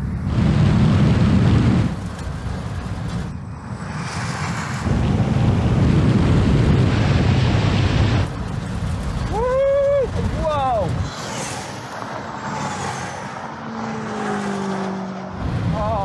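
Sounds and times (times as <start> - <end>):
rushing wind and road noise: 0.0 - 16.0.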